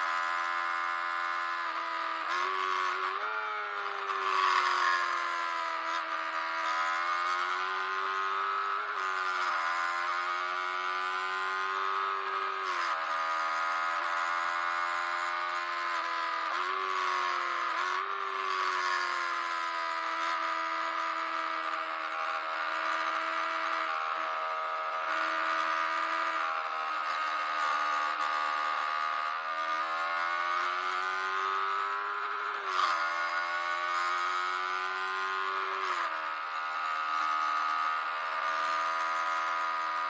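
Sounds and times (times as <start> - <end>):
motorcycle engine revving high: 0.0 - 40.0.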